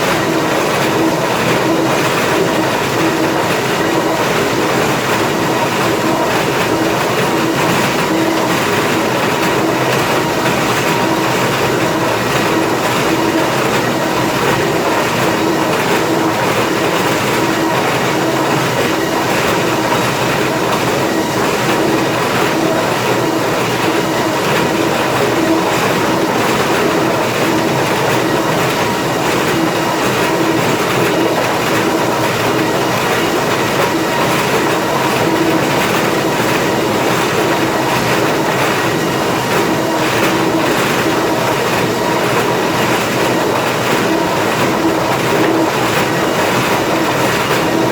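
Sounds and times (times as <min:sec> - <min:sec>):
planer mill machinery running: 0:00.0 - 0:47.9
rapid clatter of conveyors: 0:00.0 - 0:47.9
steady machine hum: 0:00.0 - 0:47.9.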